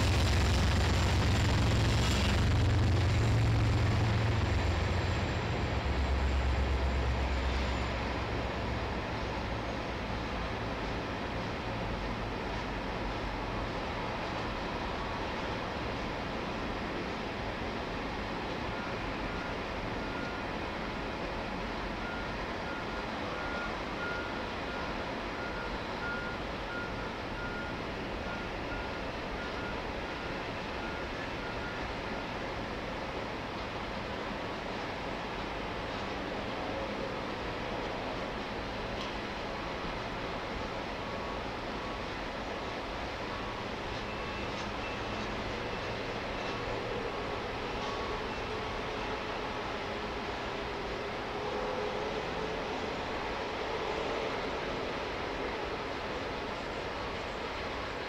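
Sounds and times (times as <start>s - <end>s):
diesel locomotives droning: 0.0s - 58.0s
freight cars rumbling: 0.0s - 58.0s.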